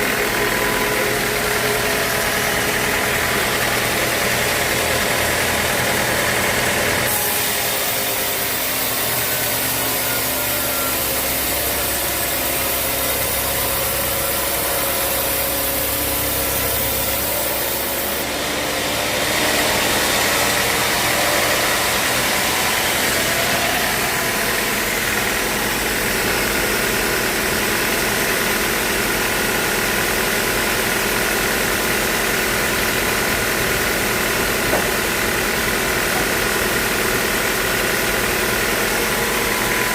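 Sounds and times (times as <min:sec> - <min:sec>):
band sawmill machinery running: 0:00.0 - 0:39.9.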